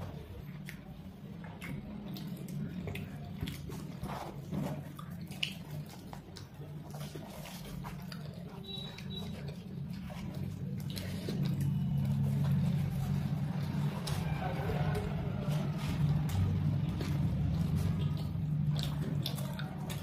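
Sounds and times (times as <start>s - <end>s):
chewing and smacking: 0.0s - 20.0s.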